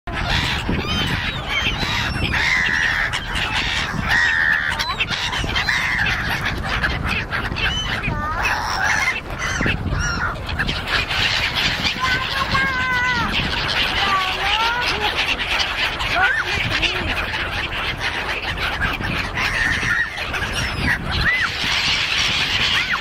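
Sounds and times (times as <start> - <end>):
gulls squawking: 0.1 - 23.0.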